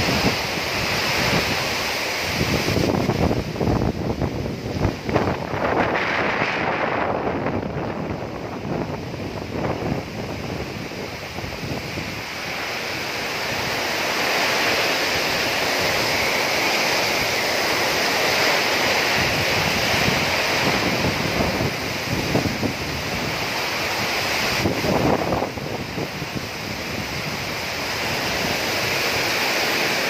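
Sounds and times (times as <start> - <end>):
heavy rain pouring: 0.0 - 30.0
wind buffeting microphone: 0.0 - 30.0.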